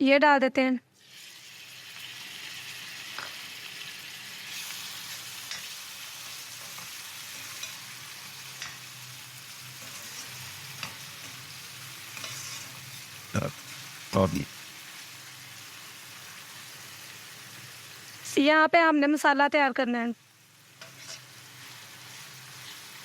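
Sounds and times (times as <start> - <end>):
vegetables sizzling in hot fat: 0.9 - 18.7, 20.1 - 23.0.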